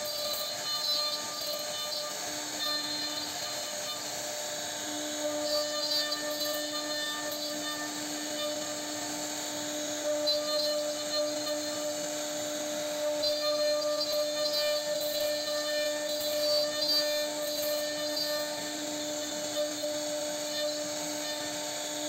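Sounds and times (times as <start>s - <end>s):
bit cutting wood: 0.0s - 22.0s
router spindle hum: 0.0s - 22.0s.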